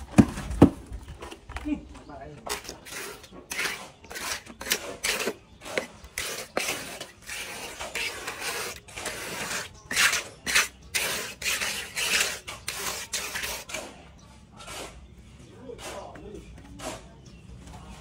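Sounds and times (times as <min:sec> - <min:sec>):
trowel scraping wet concrete: 0:01.2 - 0:15.1, 0:15.7 - 0:17.2.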